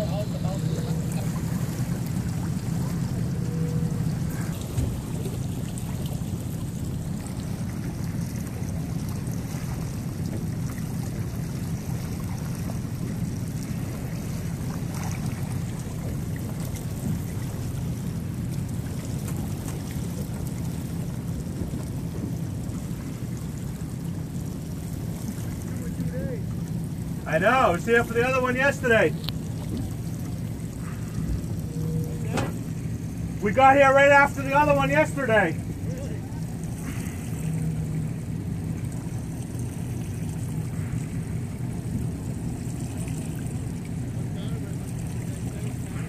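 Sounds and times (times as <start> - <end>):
boat engine running: 0.0 - 46.0.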